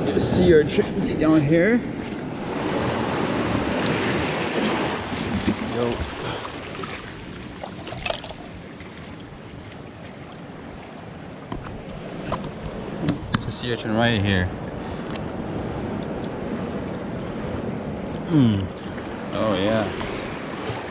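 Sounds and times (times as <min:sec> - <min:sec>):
surf washing over rocks: 0:00.0 - 0:20.9.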